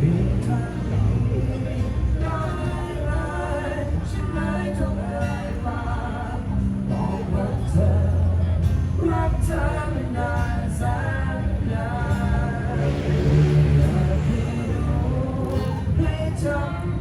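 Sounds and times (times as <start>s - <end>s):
person singing: 0.0s - 17.0s
steady bass line: 0.0s - 17.0s.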